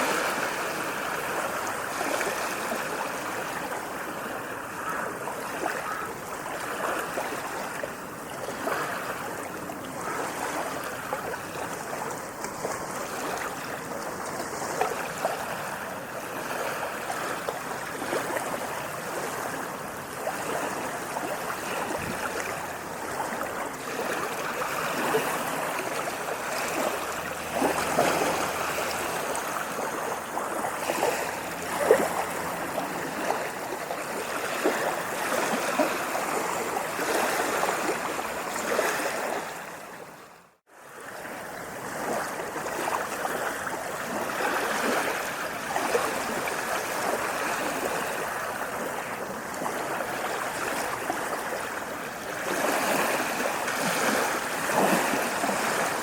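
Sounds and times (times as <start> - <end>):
water splashing and gurgling: 0.0 - 56.0.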